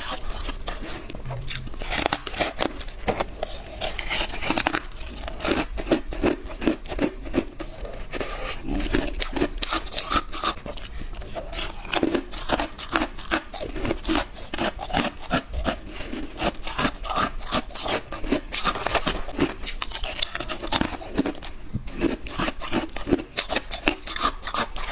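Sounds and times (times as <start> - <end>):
ice crunching while chewed: 0.0 - 24.9.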